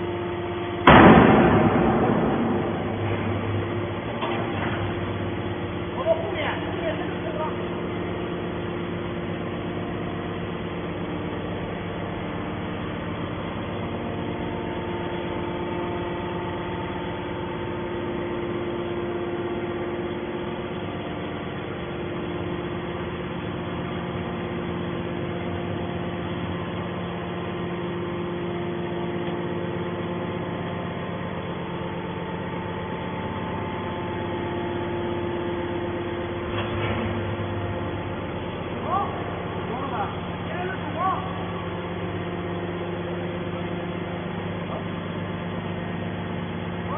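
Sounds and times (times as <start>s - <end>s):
baler machine humming: 0.0s - 46.9s.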